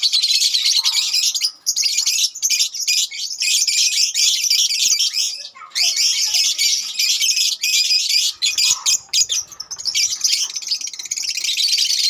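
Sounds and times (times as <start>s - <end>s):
lovebirds chattering: 0.0s - 12.0s.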